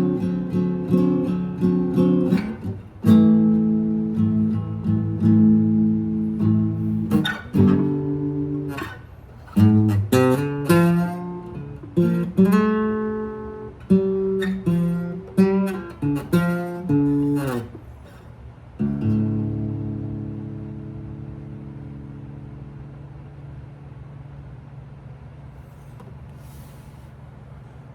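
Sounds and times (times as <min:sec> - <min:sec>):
acoustic guitar strumming: 0:00.0 - 0:24.8.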